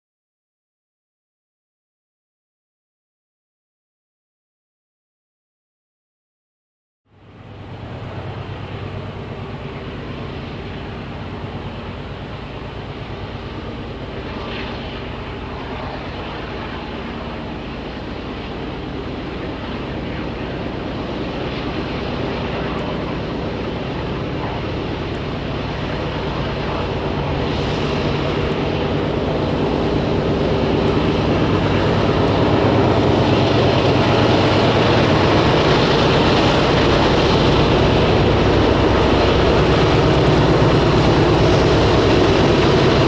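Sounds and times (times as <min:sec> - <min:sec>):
diesel locomotive engines droning: 0:07.1 - 0:43.0.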